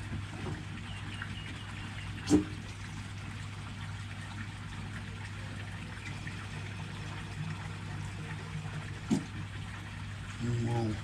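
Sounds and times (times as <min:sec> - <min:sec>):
gasoline trickling into tank: 0:00.0 - 0:11.0.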